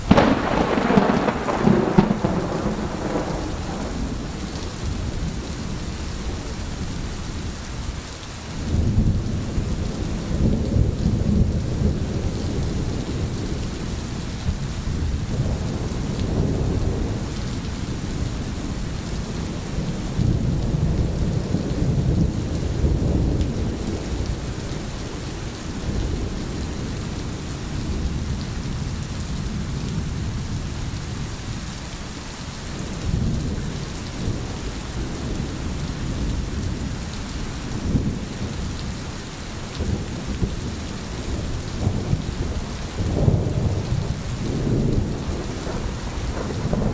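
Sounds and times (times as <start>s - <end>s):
steady rain: 0.0s - 46.9s.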